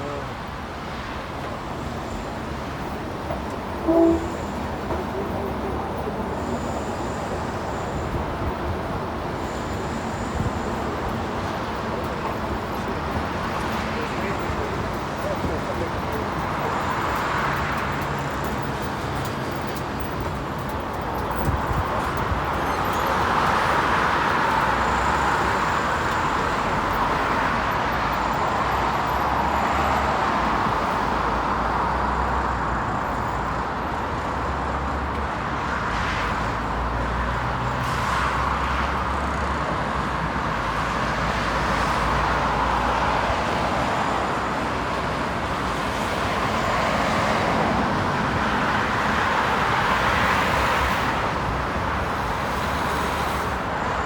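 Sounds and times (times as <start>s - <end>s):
passing cars: 0.0s - 54.0s.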